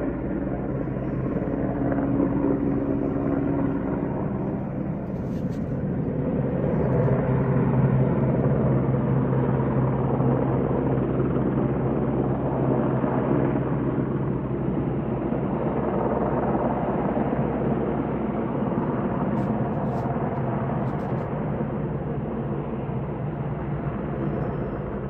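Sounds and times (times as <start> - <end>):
helicopter flying past: 0.0 - 25.0.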